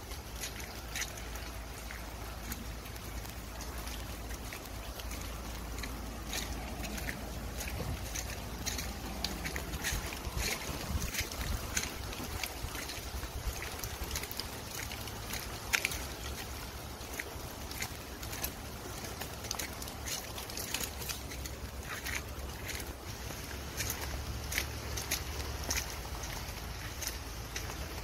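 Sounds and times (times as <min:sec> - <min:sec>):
light ticks and splashes: 0:00.0 - 0:28.0
steady rain hiss: 0:00.0 - 0:28.0
wind rumble on microphone: 0:00.0 - 0:28.0.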